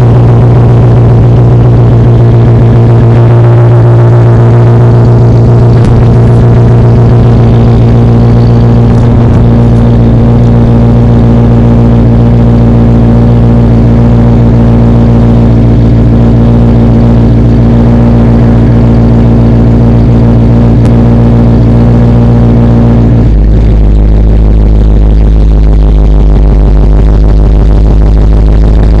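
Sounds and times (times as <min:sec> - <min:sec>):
loud engine exhaust idling: 0:00.0 - 0:29.0.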